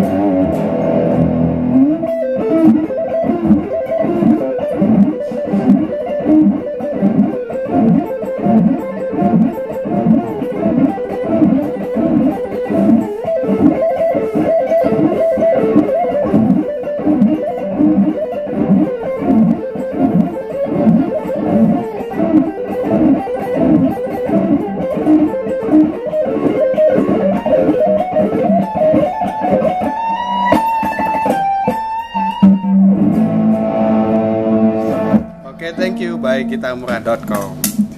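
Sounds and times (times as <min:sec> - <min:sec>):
electric guitar lead lines: 0:00.0 - 0:37.9.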